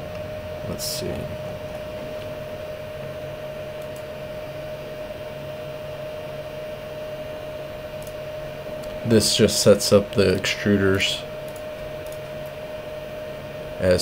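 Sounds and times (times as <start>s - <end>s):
fan-like hum and hiss: 0.0s - 14.0s.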